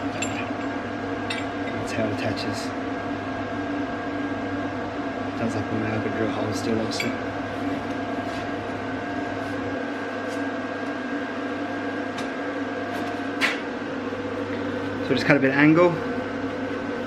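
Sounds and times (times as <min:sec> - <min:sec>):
machine hum with high tone: 0:00.0 - 0:17.0.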